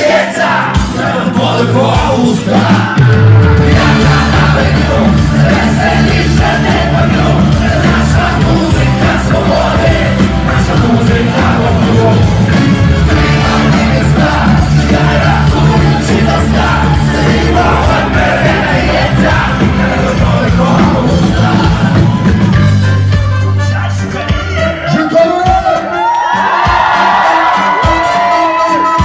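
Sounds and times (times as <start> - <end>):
man singing and shouting: 0.0 - 22.3, 23.6 - 26.0
live ska-punk band playing: 0.0 - 29.0.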